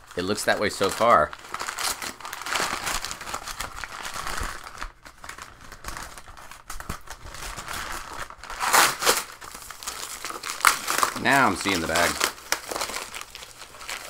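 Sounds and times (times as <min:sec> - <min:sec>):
packaging wrap crinkling: 0:00.0 - 0:14.0.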